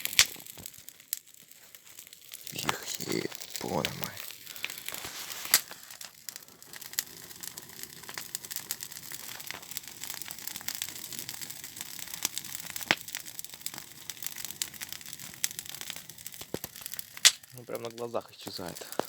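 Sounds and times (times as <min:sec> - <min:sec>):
paper fire crackling: 0:00.0 - 0:19.0
sharp pops of fire: 0:00.0 - 0:19.0.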